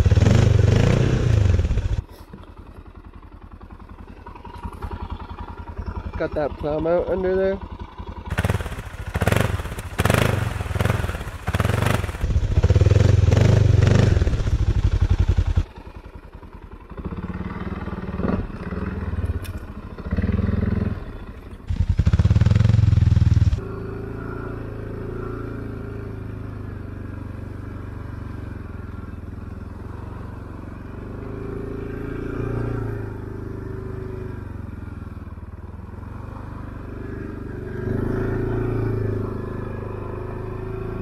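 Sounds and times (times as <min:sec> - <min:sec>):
atv engine revving: 0:00.0 - 0:02.4, 0:04.0 - 0:15.8, 0:16.9 - 0:41.0.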